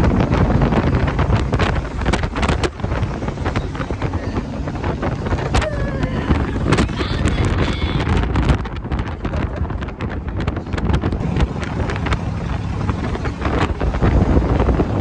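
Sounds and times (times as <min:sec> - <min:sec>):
truck road noise: 0:00.0 - 0:15.0
wind buffeting microphone: 0:00.0 - 0:15.0.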